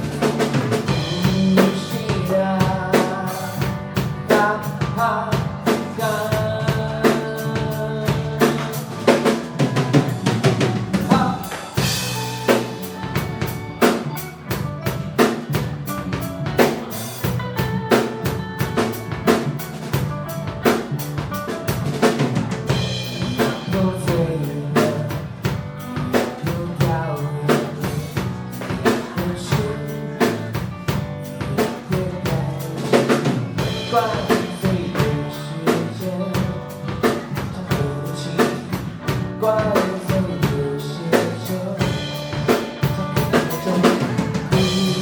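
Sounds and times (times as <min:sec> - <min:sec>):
band playing instrumental: 0:00.0 - 0:45.0
drum kit rhythm: 0:00.0 - 0:45.0.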